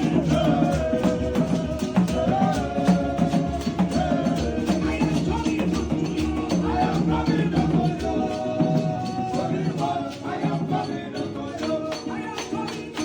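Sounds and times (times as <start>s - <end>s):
gospel band playing: 0.0s - 13.0s
tambourine and shaker beat: 0.0s - 13.0s.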